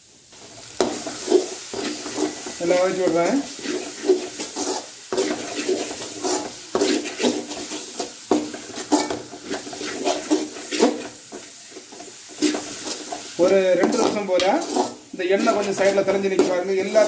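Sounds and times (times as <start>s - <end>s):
oil sizzling: 0.0s - 17.0s
spatula scraping metal pan: 0.8s - 17.0s.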